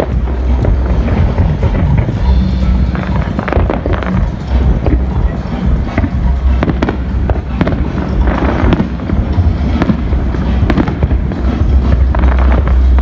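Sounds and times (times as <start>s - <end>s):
deep rumble: 0.0s - 13.0s
fireworks crackling: 0.0s - 13.0s
fireworks sharp bangs: 0.0s - 13.0s.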